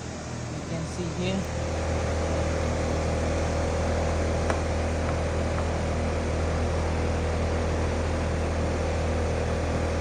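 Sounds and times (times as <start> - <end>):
compressor hum: 0.0 - 10.0
fan rushing: 0.0 - 10.0.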